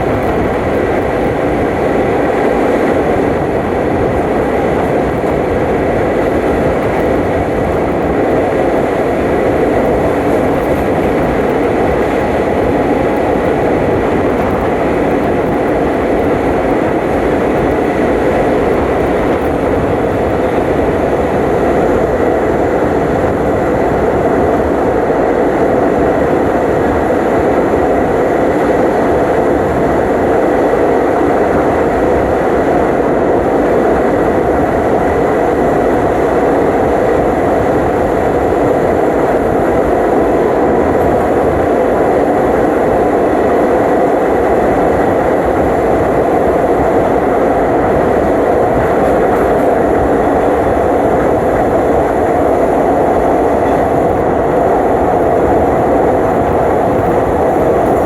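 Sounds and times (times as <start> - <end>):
faint steady whine: 0.0 - 58.0
train wheels rumbling on rail: 0.0 - 58.0.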